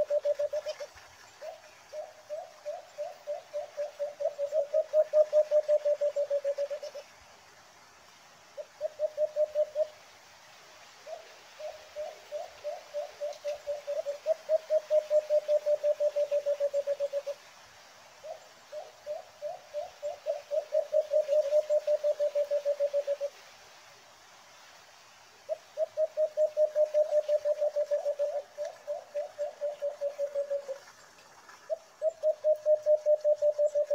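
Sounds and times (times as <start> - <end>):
dove hooting: 0.0 - 7.1, 8.6 - 10.0, 11.0 - 17.4, 18.2 - 23.4, 25.5 - 30.9, 31.7 - 33.9.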